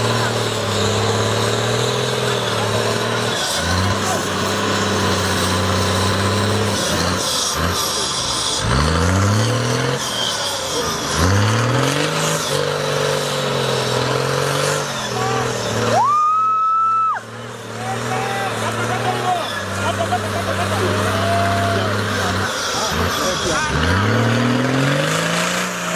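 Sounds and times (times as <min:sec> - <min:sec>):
off-road vehicle engine revving: 0:00.0 - 0:25.9.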